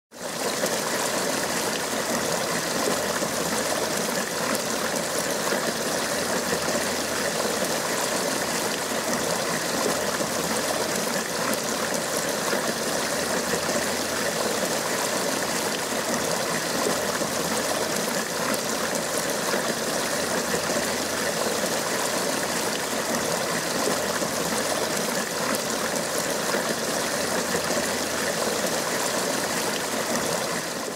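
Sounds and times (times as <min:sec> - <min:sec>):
fountain water splashing and trickling: 0:00.1 - 0:30.9.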